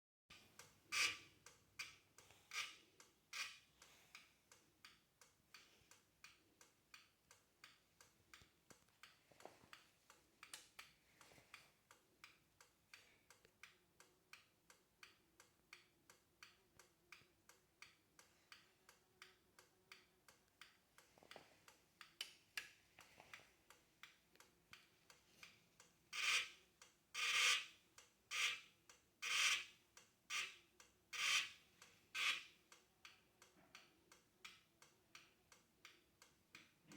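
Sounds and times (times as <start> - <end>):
faint ticking from a battery: 0.3 - 36.9.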